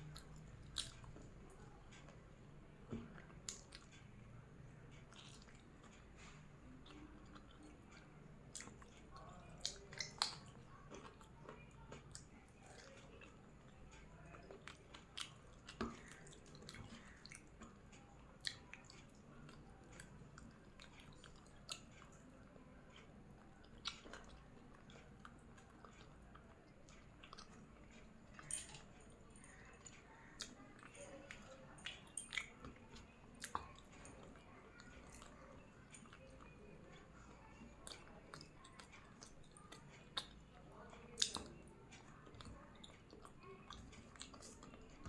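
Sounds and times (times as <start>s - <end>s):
chewing and wet mouth sounds: 0.0s - 45.0s.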